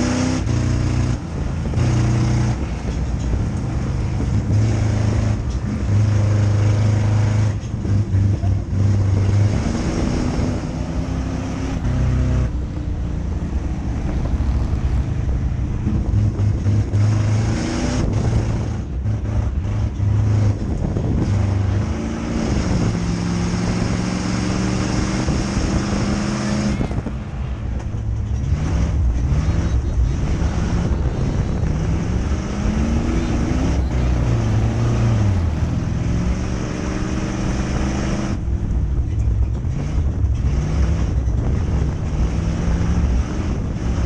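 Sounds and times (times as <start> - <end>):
race car engine at speed: 0.0 - 44.0.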